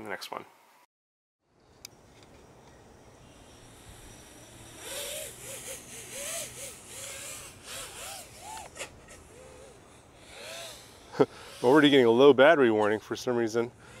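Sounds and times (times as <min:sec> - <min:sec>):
quadcopter motors whining: 0:02.3 - 0:14.0.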